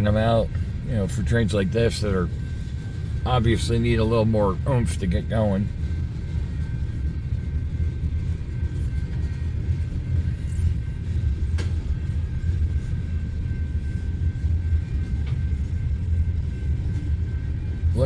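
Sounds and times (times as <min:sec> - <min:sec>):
faint steady whine: 0:00.0 - 0:18.0
train low rumble: 0:00.0 - 0:18.0.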